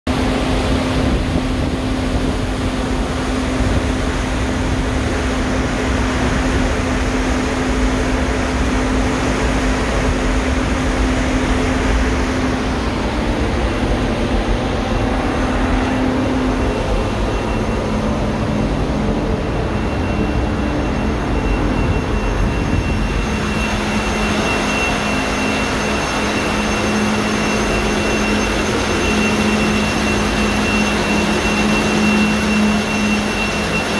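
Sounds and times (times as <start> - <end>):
ship engine droning: 0.1 - 33.9.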